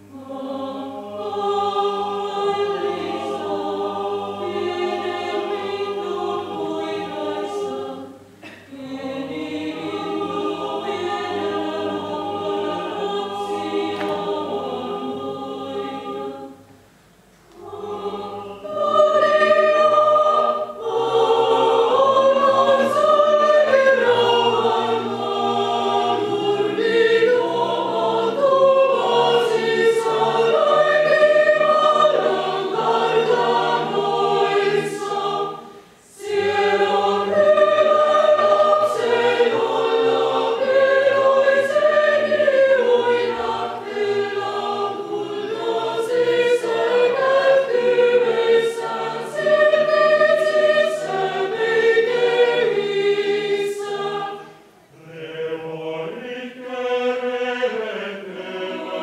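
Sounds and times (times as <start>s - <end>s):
mixed choir singing: 0.0s - 16.8s, 17.5s - 59.0s.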